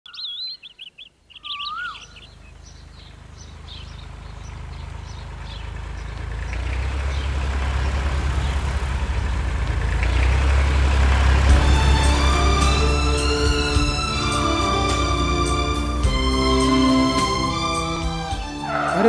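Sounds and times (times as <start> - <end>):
birds chirping and trilling: 0.1 - 19.0
tractor diesel engine rumbling: 2.2 - 19.0.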